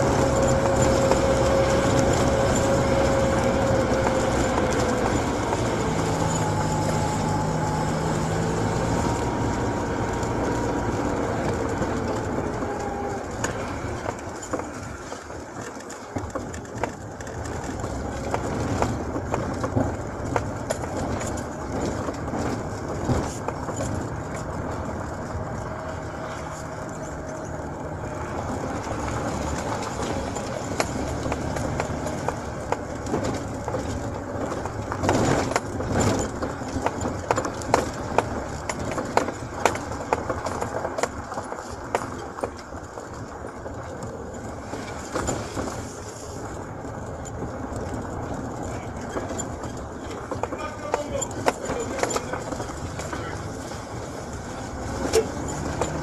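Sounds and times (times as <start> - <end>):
car engine and tyre noise: 0.0 - 56.0
knocks and rattles from bumps: 0.0 - 56.0.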